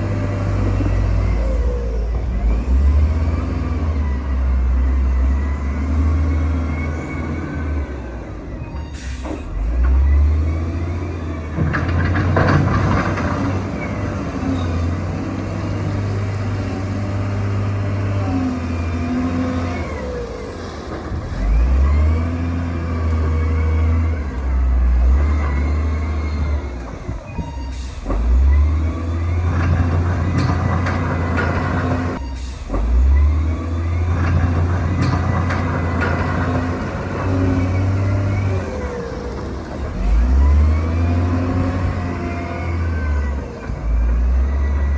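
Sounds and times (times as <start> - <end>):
diesel engine revving under load: 0.0 - 44.9.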